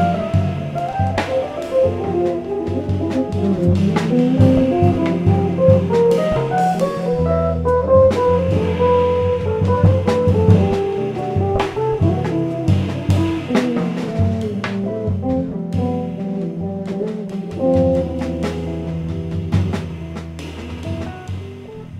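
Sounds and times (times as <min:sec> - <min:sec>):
cymbal and drum hits: 0:00.0 - 0:21.9
electric bass line: 0:00.0 - 0:21.9.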